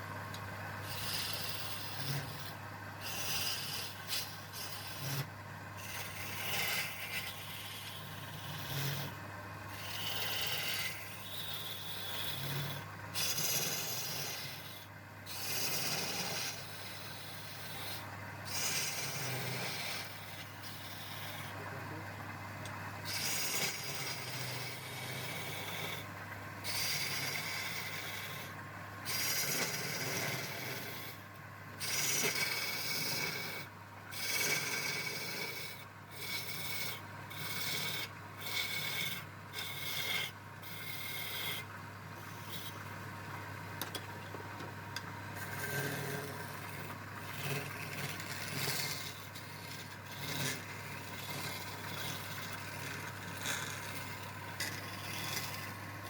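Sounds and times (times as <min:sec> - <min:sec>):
steady low hum: 0:00.0 - 0:56.0
hand tool rasping on wood: 0:00.9 - 0:21.6, 0:23.0 - 0:31.2, 0:31.8 - 0:41.7, 0:45.4 - 0:55.8.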